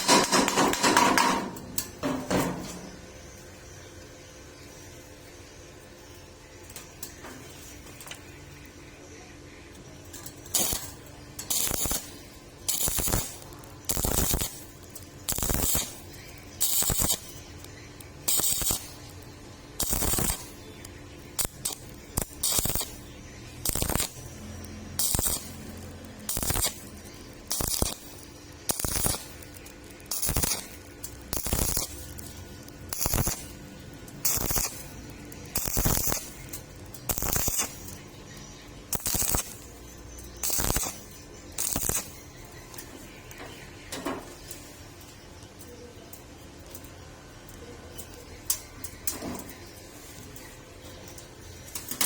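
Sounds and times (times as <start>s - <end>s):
welding arc crackling and hissing: 0.0s - 3.4s, 9.8s - 43.6s, 44.2s - 52.0s.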